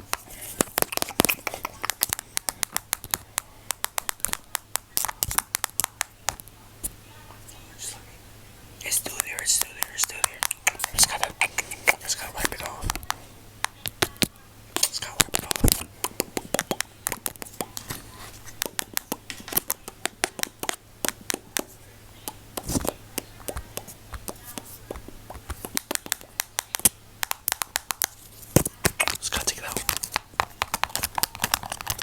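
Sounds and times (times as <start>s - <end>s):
sharp clicks and crackles: 0.1s - 6.6s, 12.4s - 32.0s.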